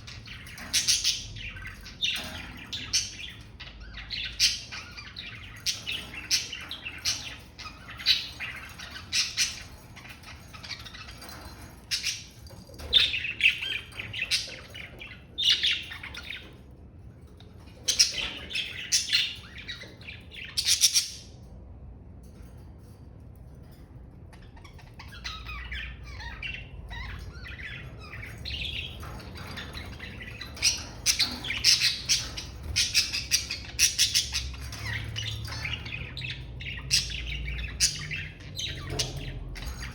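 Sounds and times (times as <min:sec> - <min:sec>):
budgerigars chirping and chattering: 0:00.0 - 0:21.5, 0:24.3 - 0:39.9.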